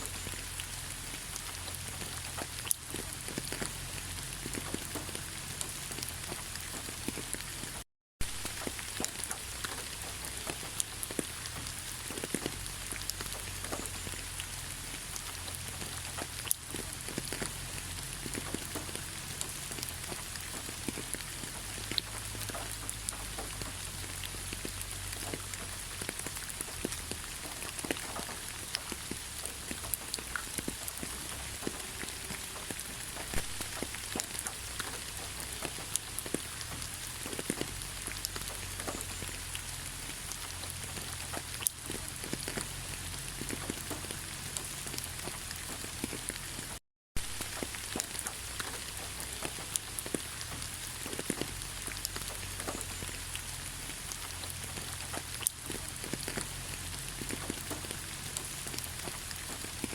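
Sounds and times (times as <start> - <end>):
rain falling through trees: 0.0 - 59.9
raindrops ticking: 0.0 - 59.9.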